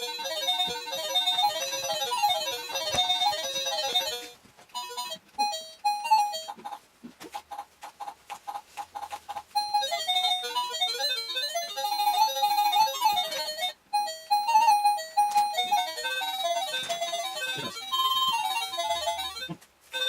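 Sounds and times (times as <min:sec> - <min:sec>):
electronic doorbell chime tunes: 0:00.0 - 0:06.5, 0:09.6 - 0:19.4.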